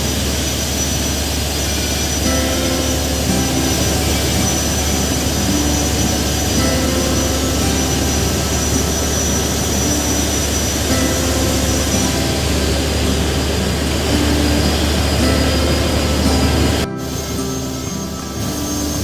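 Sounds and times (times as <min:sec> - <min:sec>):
motorboat engine drone: 0:00.0 - 0:19.0
rushing water and wind: 0:00.0 - 0:19.0.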